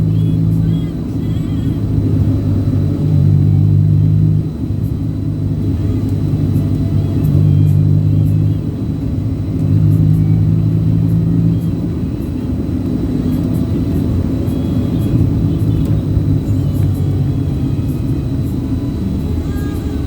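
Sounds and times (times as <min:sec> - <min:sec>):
road vehicle rumbling: 0:00.0 - 0:20.0.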